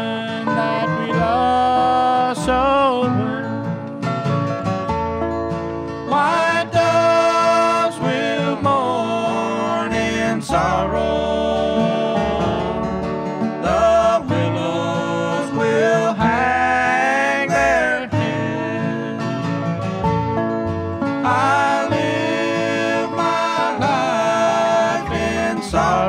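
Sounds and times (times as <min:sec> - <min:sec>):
banjo: 0:00.0 - 0:26.0
guitar: 0:00.0 - 0:26.0
upright bass: 0:00.0 - 0:26.0.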